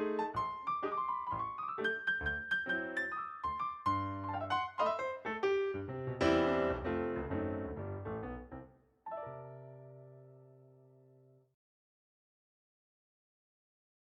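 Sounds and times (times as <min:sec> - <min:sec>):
piano music: 0:00.0 - 0:11.3.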